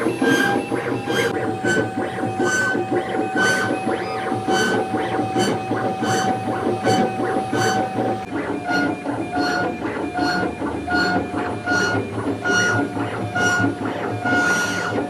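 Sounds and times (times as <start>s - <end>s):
carving machine motor whine: 0.0s - 15.0s.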